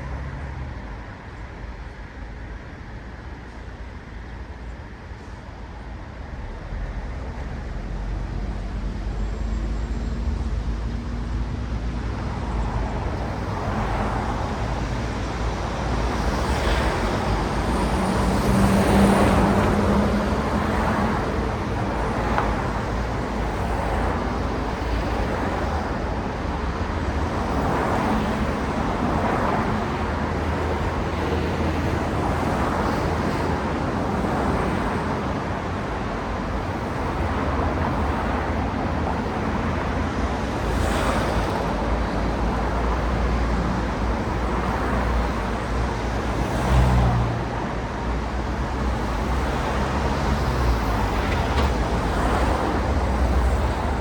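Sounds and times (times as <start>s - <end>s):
engine rumble and tyre noise: 0.0s - 54.0s
cars passing: 9.6s - 54.0s.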